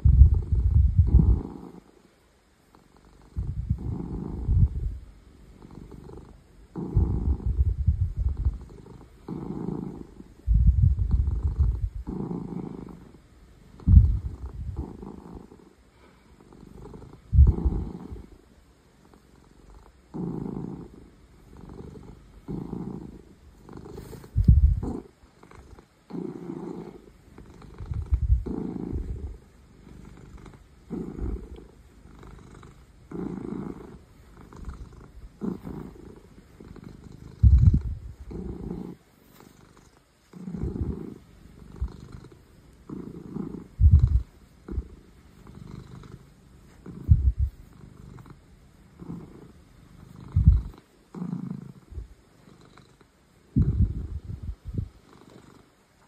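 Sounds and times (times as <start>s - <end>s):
cat purring loudly: 0.0s - 2.1s, 2.7s - 18.4s, 19.0s - 55.8s.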